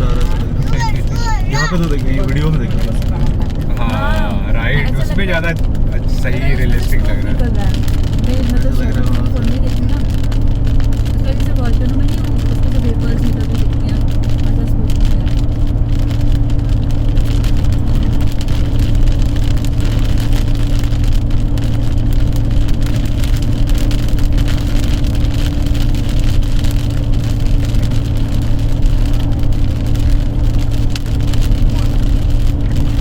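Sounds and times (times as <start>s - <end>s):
vehicle engine hum: 0.0s - 33.0s.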